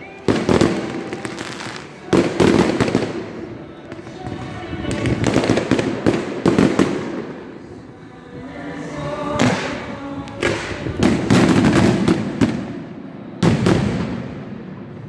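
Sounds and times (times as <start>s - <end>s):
fireworks booming: 0.0s - 7.9s, 9.4s - 15.0s.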